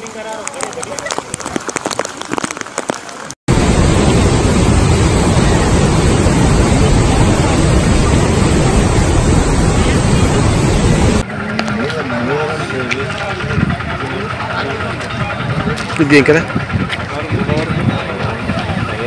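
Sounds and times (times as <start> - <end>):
floodwater rushing roar: 0.0 - 19.0.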